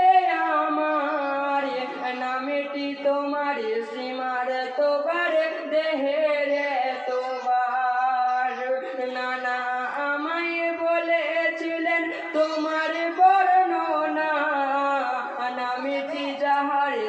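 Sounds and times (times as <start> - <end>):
men singing a lament: 0.0 - 17.0.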